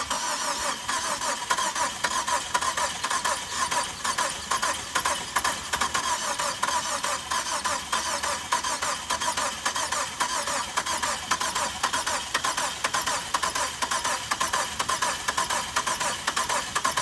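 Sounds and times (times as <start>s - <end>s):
engine cranking on starter: 0.0s - 17.0s.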